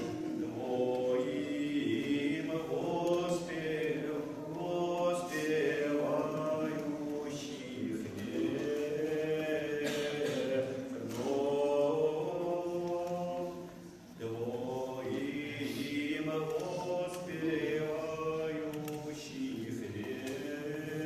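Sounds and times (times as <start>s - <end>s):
voices singing a church chant: 0.0s - 21.0s.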